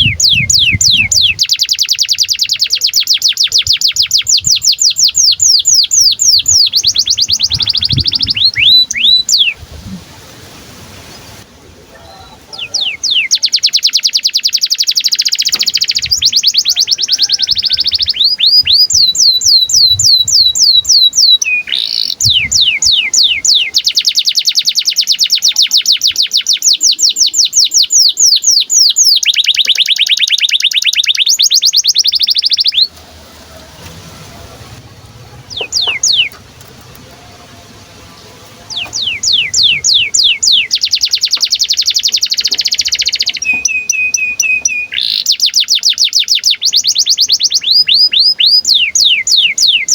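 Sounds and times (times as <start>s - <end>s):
canary singing trills: 0.0s - 10.0s, 11.0s - 49.9s.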